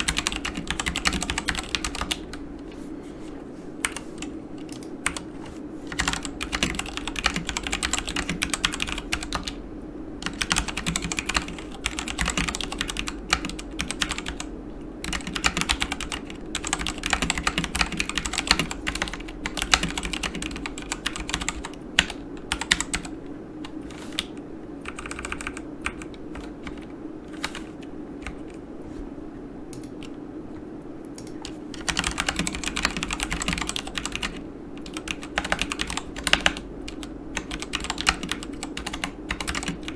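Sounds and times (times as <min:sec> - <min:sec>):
mechanical keyboard typing: 0:00.0 - 0:02.3, 0:03.8 - 0:05.3, 0:05.9 - 0:09.6, 0:10.2 - 0:28.6, 0:31.2 - 0:39.9.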